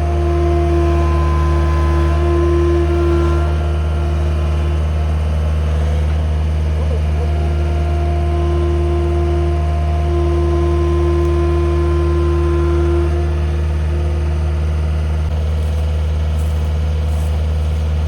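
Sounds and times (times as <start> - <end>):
faint steady whine: 0.0 - 18.0
machine engine idling: 0.0 - 18.0.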